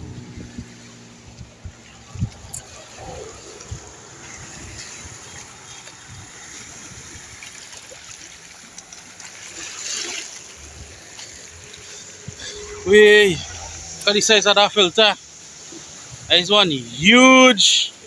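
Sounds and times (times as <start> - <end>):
small waves lapping shore: 0.0 - 18.0.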